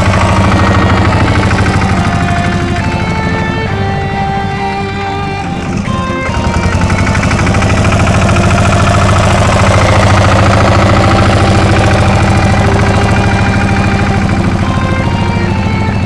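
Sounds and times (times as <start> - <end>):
tractor diesel engine chugging: 0.0 - 16.0.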